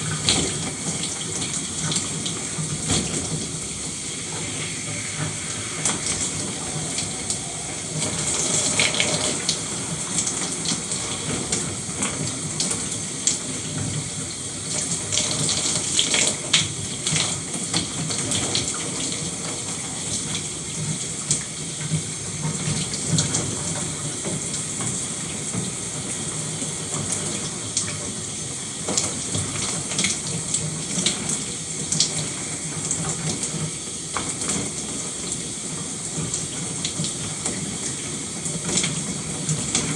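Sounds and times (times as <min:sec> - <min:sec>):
shower water spraying: 0:00.0 - 0:39.9
water drips and splashes: 0:00.0 - 0:39.9.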